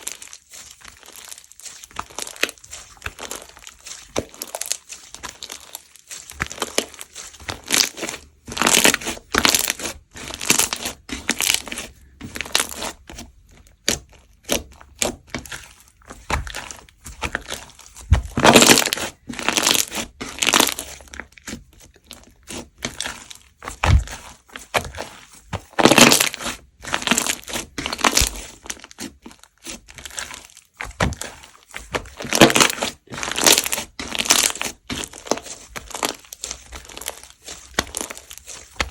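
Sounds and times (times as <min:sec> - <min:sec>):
foam slime crunching: 0:00.0 - 0:38.9.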